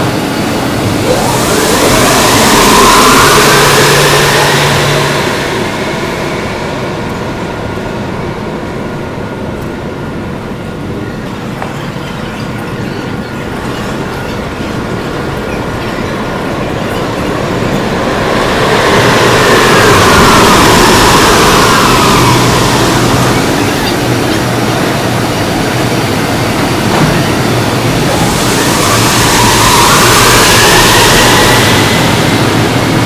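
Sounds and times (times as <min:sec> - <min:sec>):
train motor whine: 0:00.0 - 0:33.0.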